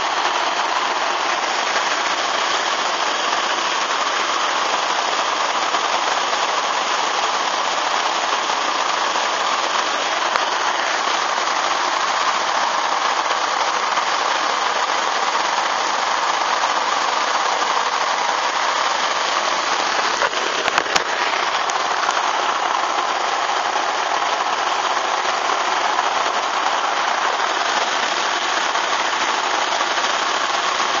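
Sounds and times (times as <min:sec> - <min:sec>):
heavy rain on water and umbrella: 0:00.0 - 0:31.0.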